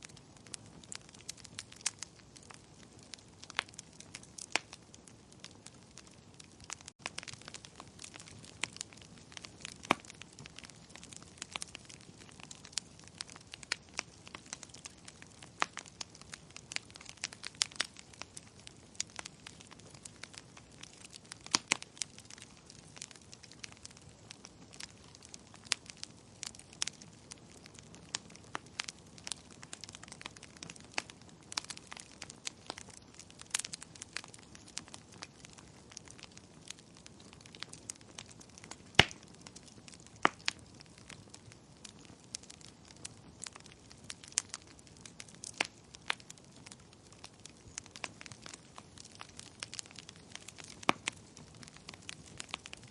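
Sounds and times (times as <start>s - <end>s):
fire crackling and popping: 0.0s - 52.9s.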